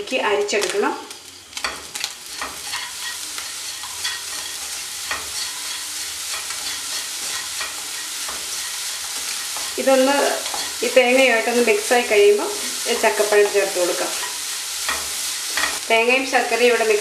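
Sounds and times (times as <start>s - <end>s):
light sizzle of frying: 0.0s - 17.0s
spatula scraping frying pan: 1.2s - 15.8s.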